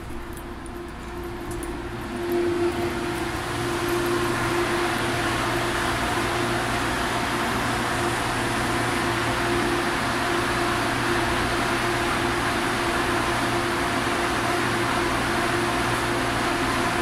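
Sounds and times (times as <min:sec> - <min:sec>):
train cabin running noise: 0:00.0 - 0:17.0.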